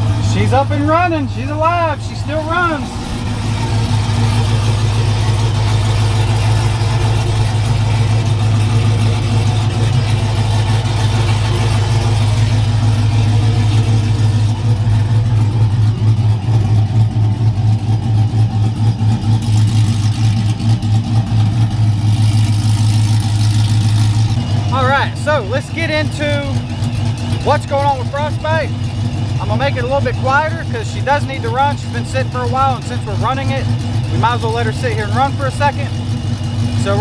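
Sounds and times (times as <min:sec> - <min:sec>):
pickup truck engine idling: 0:00.0 - 0:37.0.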